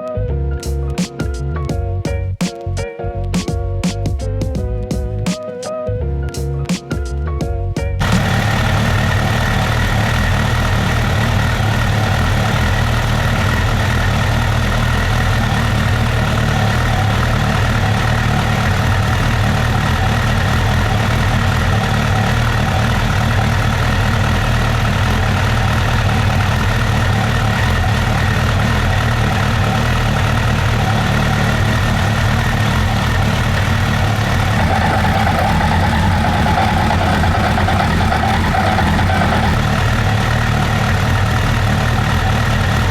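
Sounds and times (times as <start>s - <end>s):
motorcycle engine idling: 8.0s - 42.9s.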